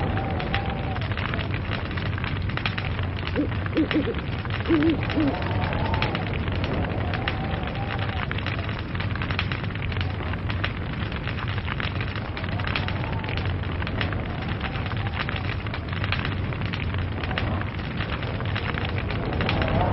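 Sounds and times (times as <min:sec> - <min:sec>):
log fire crackling and popping: 0:00.0 - 0:19.9
low rumble: 0:00.0 - 0:19.9.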